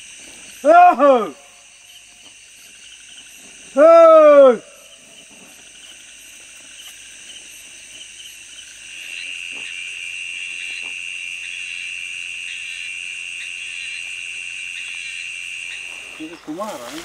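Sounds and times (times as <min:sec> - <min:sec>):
insects and frogs trilling: 0:00.0 - 0:17.0.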